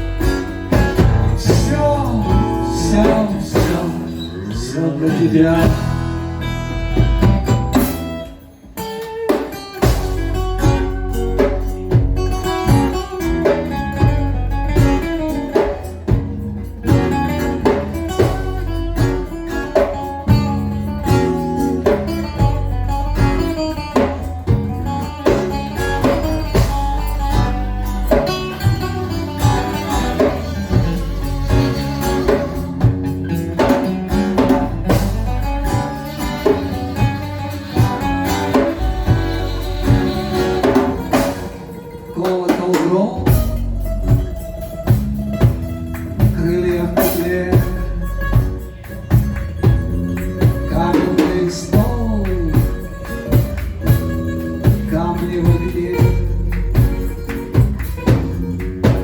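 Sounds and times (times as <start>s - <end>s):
band playing instrumental: 0.0s - 59.0s
electric guitar: 0.0s - 59.0s.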